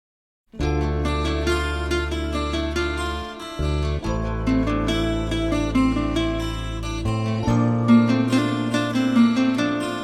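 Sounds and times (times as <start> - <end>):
held low bass: 0.6 - 10.0
plucked string melody: 0.6 - 10.0.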